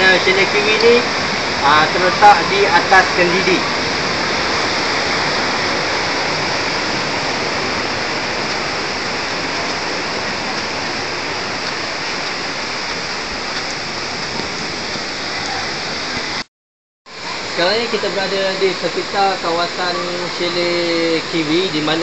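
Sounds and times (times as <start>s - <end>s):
river water rushing: 0.0s - 16.5s, 17.1s - 22.0s.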